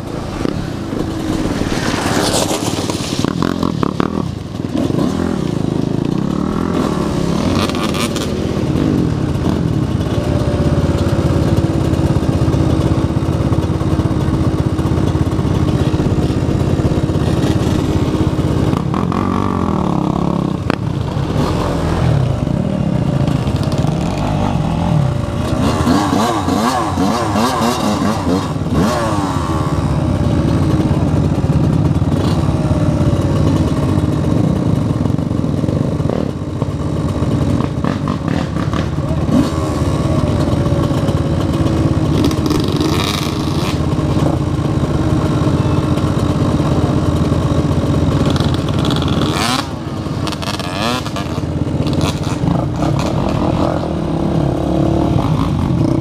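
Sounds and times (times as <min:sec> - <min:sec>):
dirt bike engine revving: 0:00.0 - 0:34.9, 0:37.0 - 0:56.0
atv revving: 0:00.0 - 0:56.0
other dirt bikes revving: 0:00.0 - 0:56.0.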